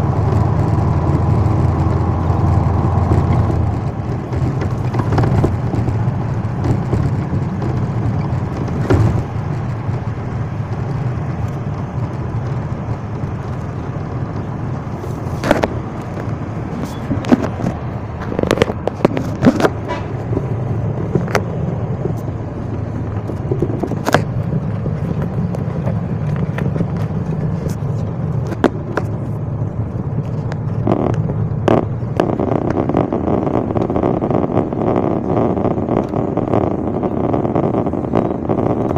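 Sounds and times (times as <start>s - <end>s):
sharp clicks and rattles: 0.0s - 38.9s
vehicle road and engine rumble: 0.0s - 38.9s.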